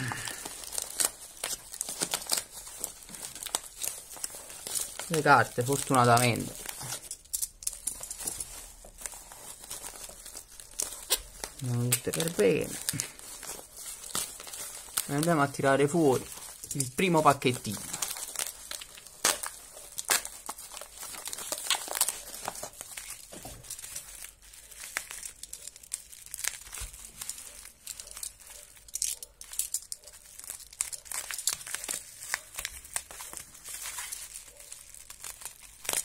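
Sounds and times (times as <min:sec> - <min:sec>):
bubble wrap crinkling: 0:00.0 - 0:36.0.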